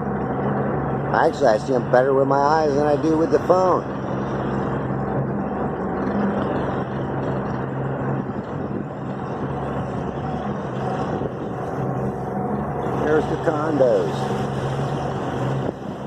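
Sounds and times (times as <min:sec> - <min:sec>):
motorboat engine hum: 0:00.0 - 0:16.0
water rushing: 0:00.0 - 0:16.0.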